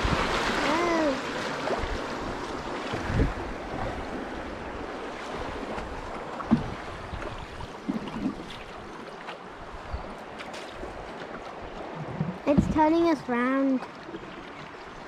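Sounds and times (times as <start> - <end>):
knocks and splashes: 0.0 - 9.5, 10.2 - 14.8
river current rushing: 0.0 - 15.0.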